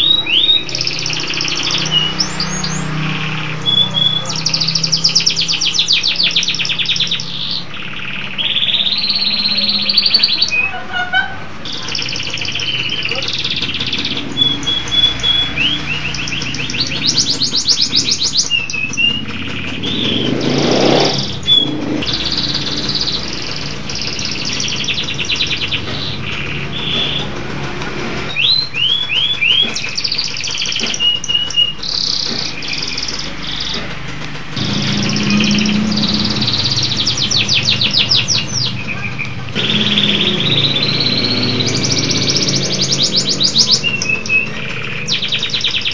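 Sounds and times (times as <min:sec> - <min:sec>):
canary singing trills: 0:00.0 - 0:27.6, 0:28.2 - 0:45.9.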